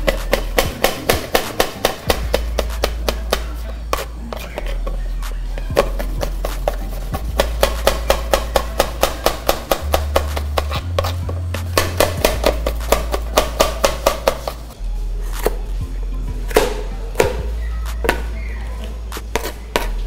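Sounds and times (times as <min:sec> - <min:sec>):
background music with bass: 0:00.0 - 0:20.0.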